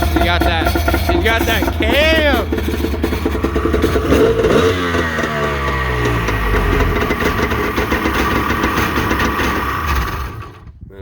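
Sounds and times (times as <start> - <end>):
jet ski engine idling: 0.0 - 10.8.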